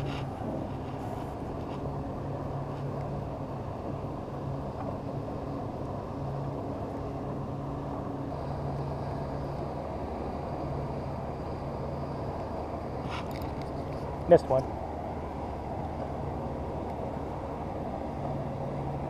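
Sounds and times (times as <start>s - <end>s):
faint high whine: 0.0s - 19.0s
low motor hum: 0.0s - 19.0s.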